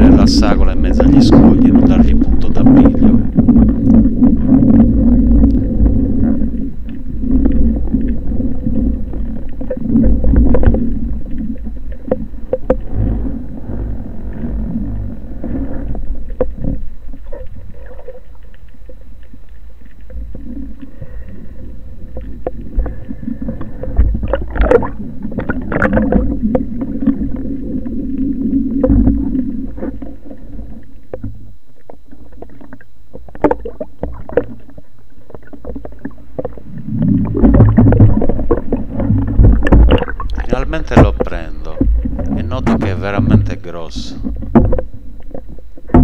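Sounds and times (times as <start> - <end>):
muffled underwater rumble: 0.0 - 46.0
water bubbling: 0.0 - 46.0.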